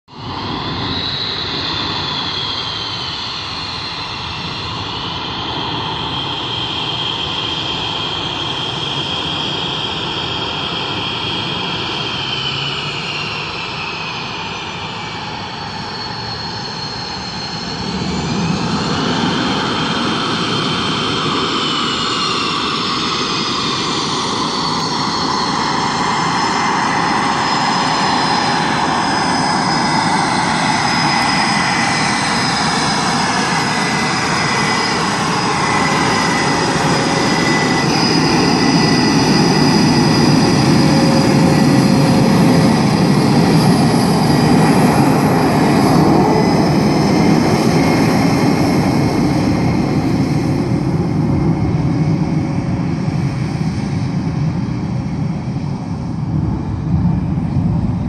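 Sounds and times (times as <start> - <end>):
high turbine whine: 0.1 - 58.0
jet engine roar: 0.1 - 58.0.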